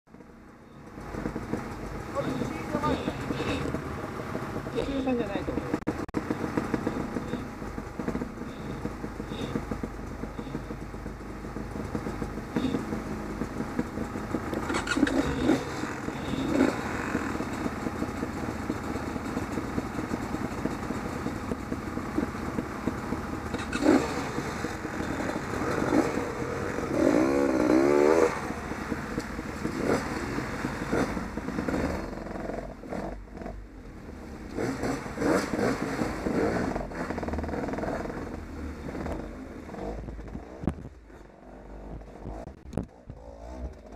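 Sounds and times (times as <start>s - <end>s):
motorcycle engines revving: 0.1s - 43.9s.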